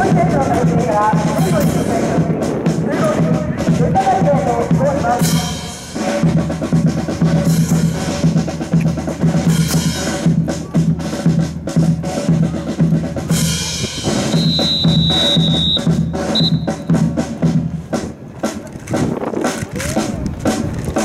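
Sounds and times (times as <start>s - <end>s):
marching band drums: 0.0s - 21.0s.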